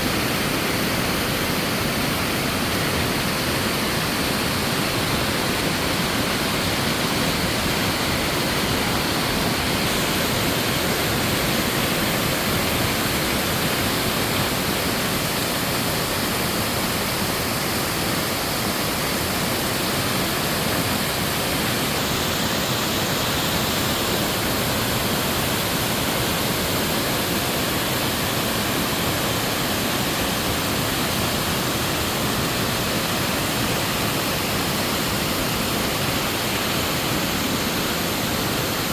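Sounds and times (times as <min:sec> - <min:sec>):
waterfall pouring into pool: 0:00.0 - 0:38.9.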